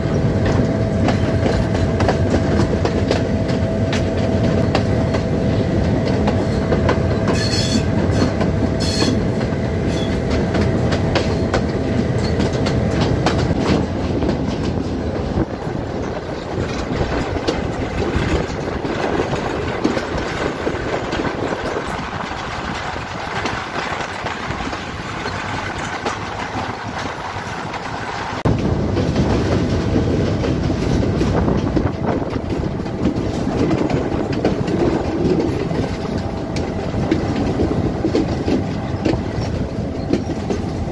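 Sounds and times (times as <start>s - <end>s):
train wheels rumbling and clattering: 0.0s - 40.9s.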